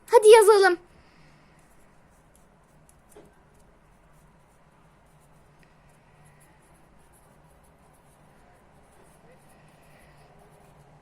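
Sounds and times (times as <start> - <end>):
pen scratching while writing: 1.6 - 11.0.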